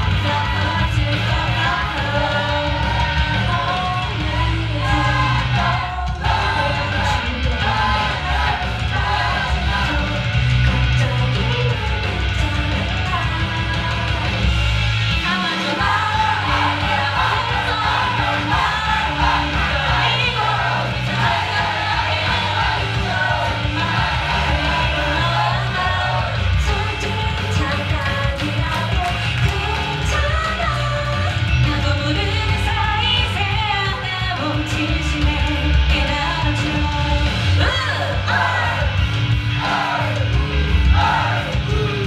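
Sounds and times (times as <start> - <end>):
heavy bass line: 0.0 - 42.0
pop song over sound system: 0.0 - 42.0.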